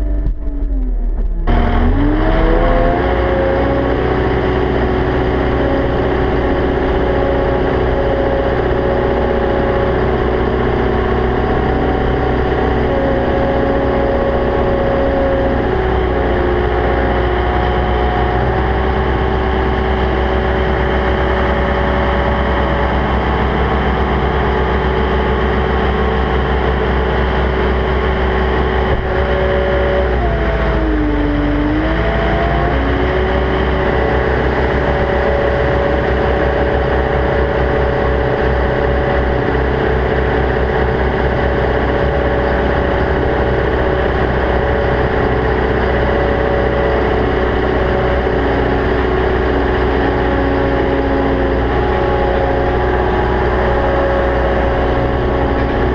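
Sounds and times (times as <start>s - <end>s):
diesel engine running loud: 0.0s - 55.9s.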